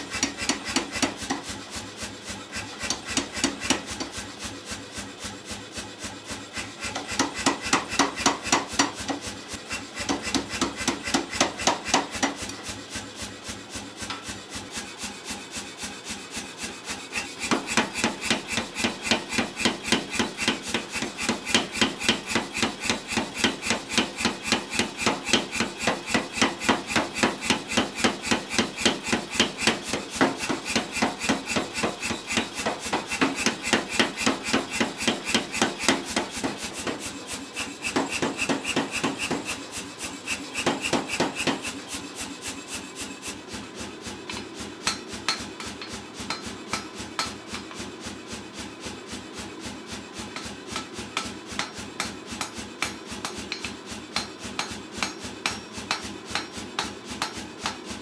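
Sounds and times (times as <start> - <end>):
power hammer pounding steel: 0.0 - 43.4, 44.3 - 47.7, 50.3 - 57.8.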